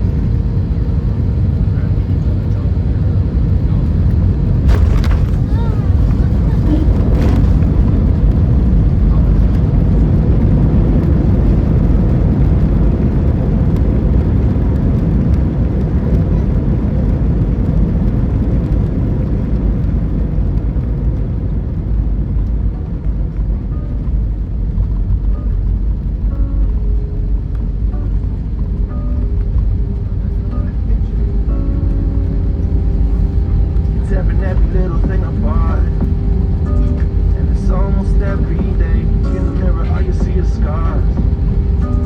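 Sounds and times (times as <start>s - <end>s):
aircraft cabin engine rumble: 0.0s - 42.0s.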